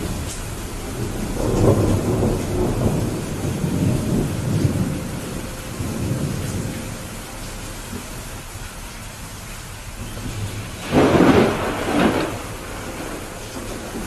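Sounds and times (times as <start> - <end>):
rolling thunder: 0.0 - 8.4, 9.9 - 14.0
rain: 0.0 - 14.0.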